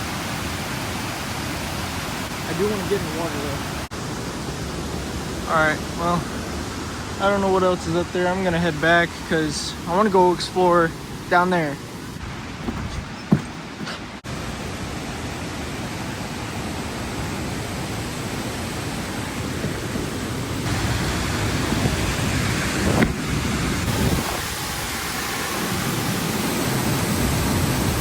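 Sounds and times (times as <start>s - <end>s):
rushing creek water: 0.0s - 28.0s
waterfall roar: 0.0s - 28.0s.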